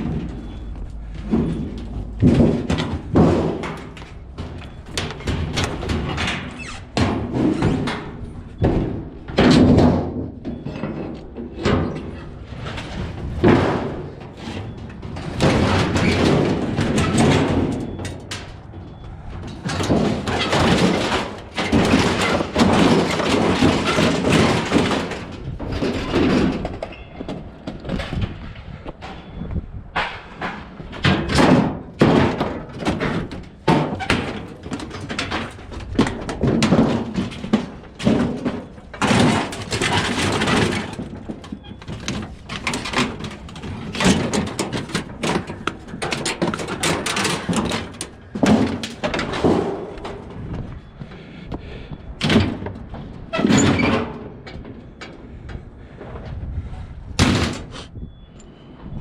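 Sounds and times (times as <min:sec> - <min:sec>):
scrap being tossed and banging: 0:00.0 - 0:18.5, 0:19.4 - 0:28.7, 0:30.0 - 0:50.7.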